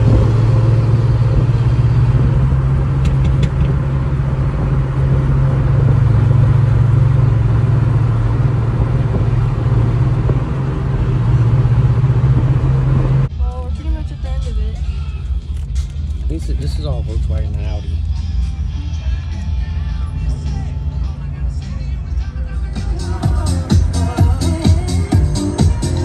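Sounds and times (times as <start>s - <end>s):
car engine drone: 0.0s - 26.0s
road noise: 0.0s - 26.0s.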